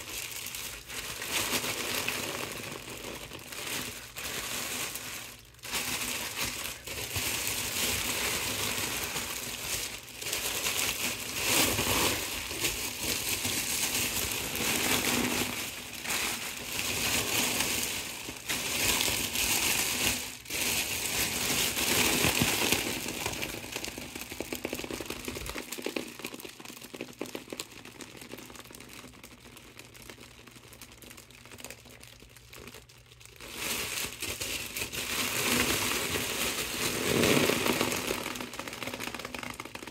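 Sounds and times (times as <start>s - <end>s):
foil balloon crinkling: 0.0s - 39.9s.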